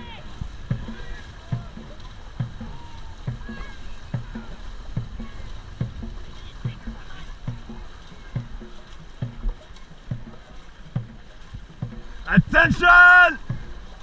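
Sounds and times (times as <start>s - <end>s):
paddle stroke thuds: 0.0s - 14.0s
water wash: 0.0s - 14.0s.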